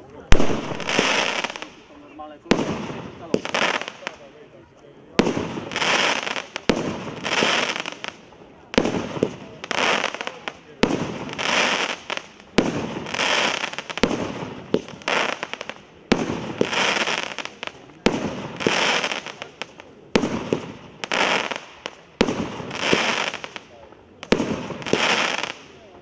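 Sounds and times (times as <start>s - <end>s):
firework shots: 0.0s - 4.4s, 5.1s - 26.0s
firework crackling: 0.0s - 26.0s.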